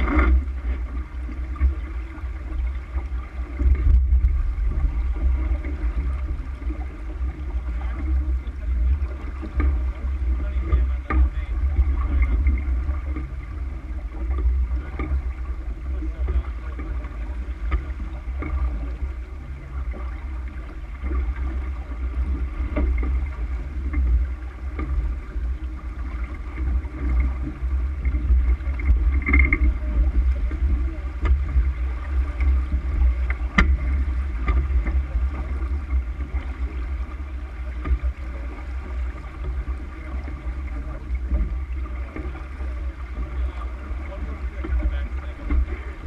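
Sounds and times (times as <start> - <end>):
water rushing past hull: 0.0 - 46.0
wind buffeting microphone: 0.0 - 46.0.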